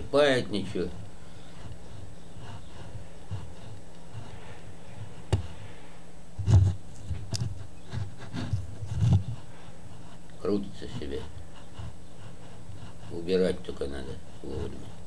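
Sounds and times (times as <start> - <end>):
steady low hum: 0.0 - 15.0
knocks and rubs: 1.4 - 5.8, 6.4 - 15.0.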